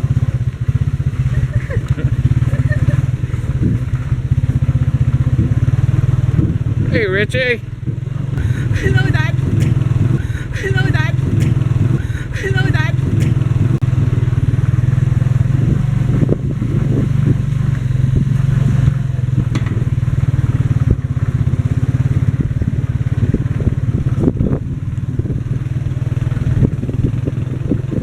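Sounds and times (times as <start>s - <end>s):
sidecar rattling and knocking: 0.0s - 7.0s, 7.6s - 15.5s, 17.2s - 28.0s
motorcycle engine running: 0.0s - 28.0s.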